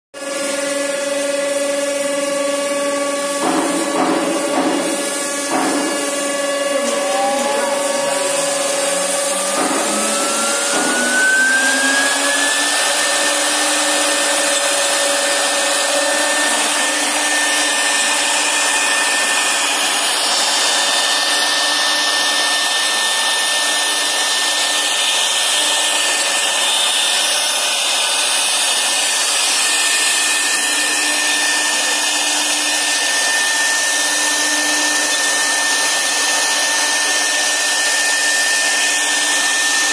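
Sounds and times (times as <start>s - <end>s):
router spindle whine: 0.2s - 39.9s.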